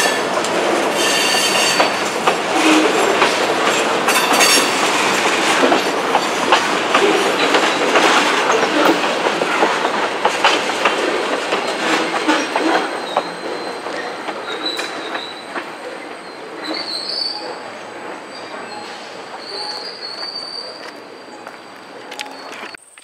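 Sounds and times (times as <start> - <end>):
train wheels clicking over rail joints: 0.0 - 22.8
high wheel squeal: 0.9 - 9.9, 11.6 - 22.8.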